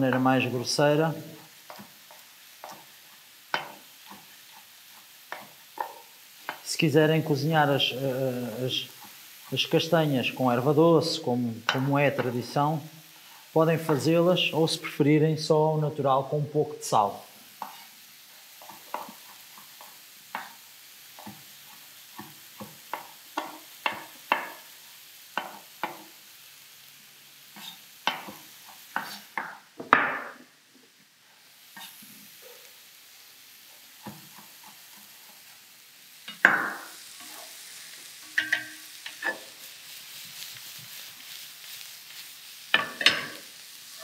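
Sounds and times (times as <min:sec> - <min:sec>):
wooden spoon stirring in pan: 0:00.0 - 0:14.8, 0:16.9 - 0:30.0, 0:30.9 - 0:44.0
food sizzling: 0:00.0 - 0:44.0.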